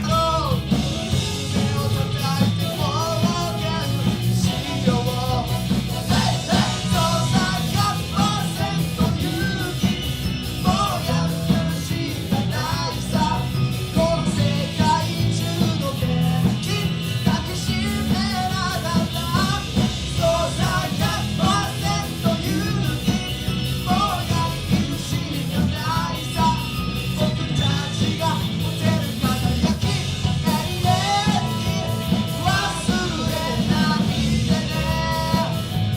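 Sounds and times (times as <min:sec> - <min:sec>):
bass guitar: 0:00.0 - 0:35.9
drums: 0:00.0 - 0:35.9
electric guitars: 0:00.0 - 0:35.9
keyboard: 0:00.0 - 0:35.9
lead vocal singing: 0:00.0 - 0:35.9.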